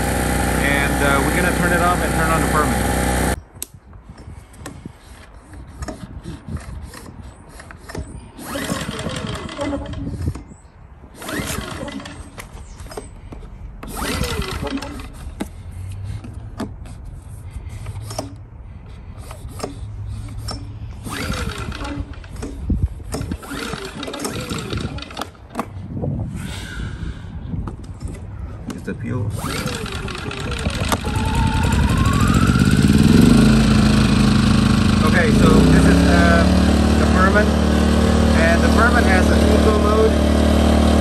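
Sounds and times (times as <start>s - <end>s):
generator pull-starter cranking: 0.0s - 3.4s, 4.1s - 10.5s, 11.1s - 17.0s, 17.6s - 25.8s, 29.3s - 41.0s.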